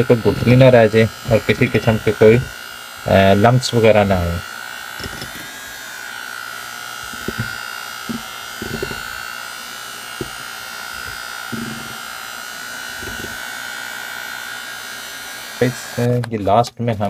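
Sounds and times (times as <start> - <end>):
electric hand mixer whining: 0.0 - 16.2.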